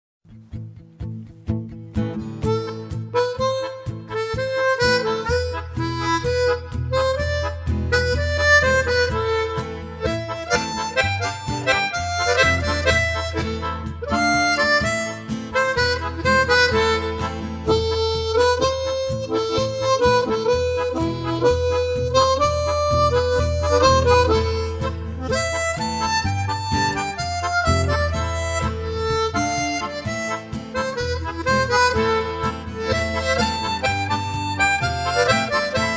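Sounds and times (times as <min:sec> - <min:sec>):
steady bass line: 0:00.3 - 0:35.9
harmonica melody: 0:02.0 - 0:35.9.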